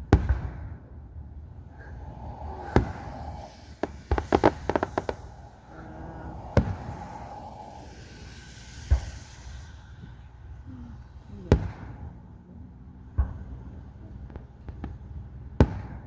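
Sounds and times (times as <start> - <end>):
crackling fireworks reports: 0.0 - 16.0
fireworks bangs: 0.0 - 16.0.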